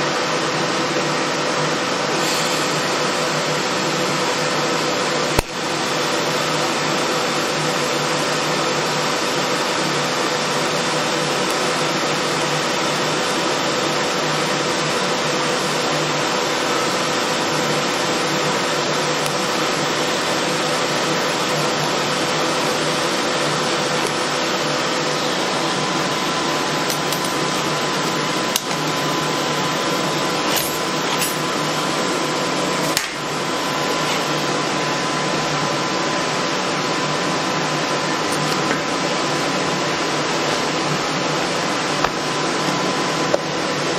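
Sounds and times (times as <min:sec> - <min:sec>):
loud steady hiss: 0:00.0 - 0:43.9
thin steady whine: 0:00.0 - 0:43.9.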